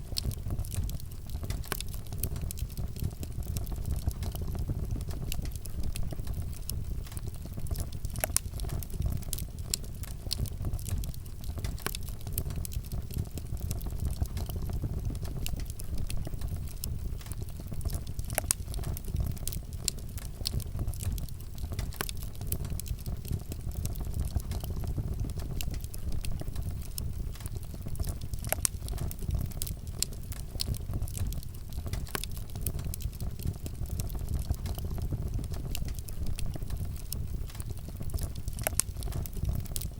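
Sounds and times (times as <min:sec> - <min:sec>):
fire crackles and pops: 0:00.0 - 0:39.9
wood fire crackling: 0:00.0 - 0:39.9.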